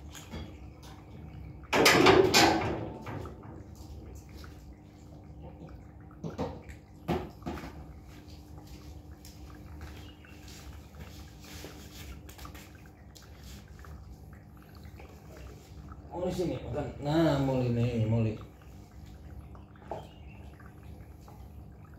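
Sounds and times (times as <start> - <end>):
cats eating from bowls: 0.0 - 21.9.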